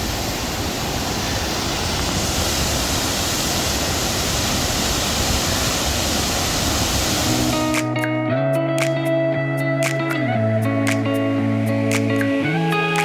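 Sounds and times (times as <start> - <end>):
waterfall rushing: 0.0 - 8.0, 9.8 - 13.0.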